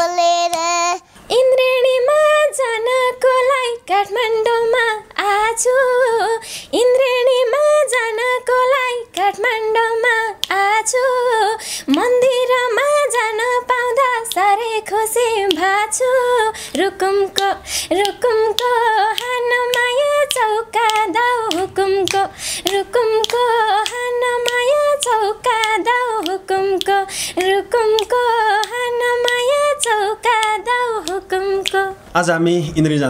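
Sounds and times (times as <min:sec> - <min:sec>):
girl singing unaccompanied: 0:00.0 - 0:32.2.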